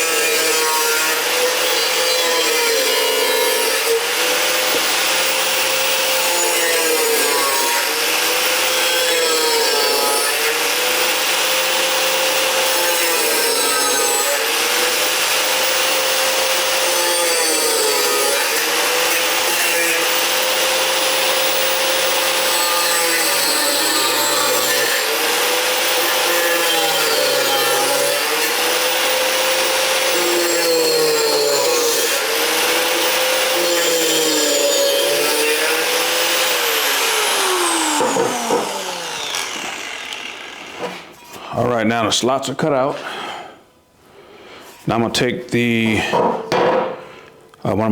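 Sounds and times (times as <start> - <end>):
angle grinder cutting metal: 0.0 - 41.3.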